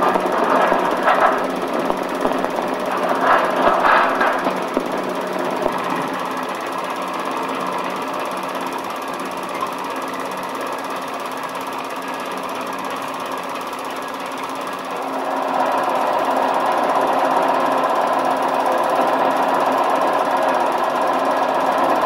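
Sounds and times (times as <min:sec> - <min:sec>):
film projector clattering: 0:00.0 - 0:22.0.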